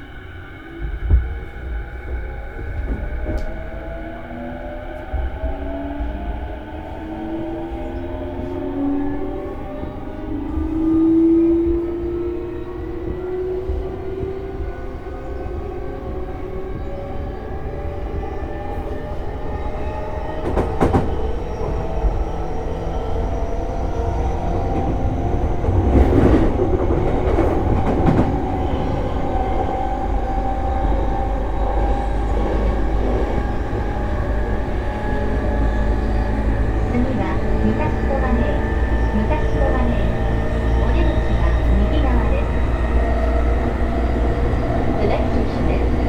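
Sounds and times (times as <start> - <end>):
wheels rumbling on rail: 0.0 - 46.0.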